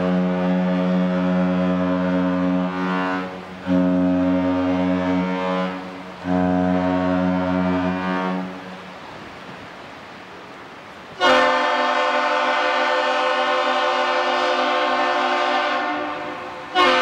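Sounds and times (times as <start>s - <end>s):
ship horn deep blasts: 0.0s - 9.2s, 11.2s - 17.0s.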